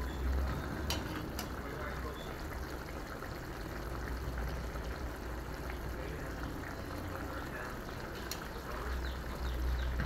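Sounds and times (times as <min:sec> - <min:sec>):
sauce bubbling at a simmer: 0:00.0 - 0:10.0.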